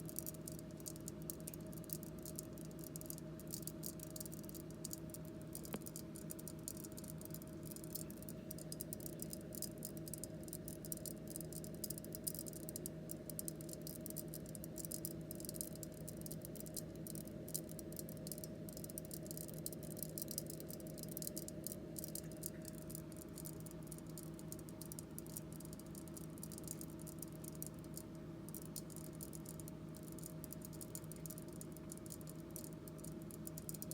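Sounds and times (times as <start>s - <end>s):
refrigerator hum: 0.0s - 33.9s.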